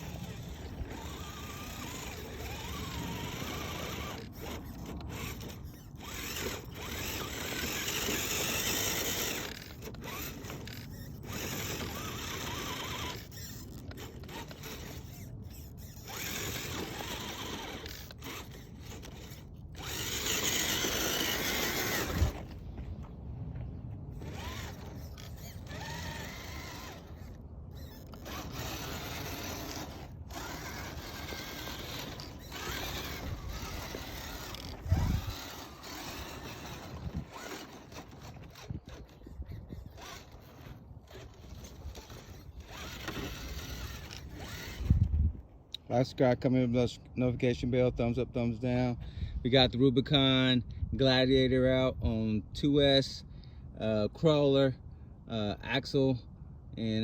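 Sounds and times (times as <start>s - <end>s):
electric motor and gears whining: 0.0s - 46.2s.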